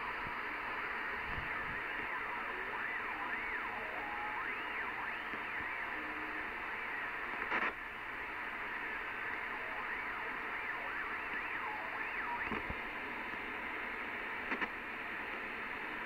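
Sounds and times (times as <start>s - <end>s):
faint wavering whine: 0.0s - 16.0s
radio crackles: 0.0s - 16.0s
radio static hiss: 0.0s - 16.0s.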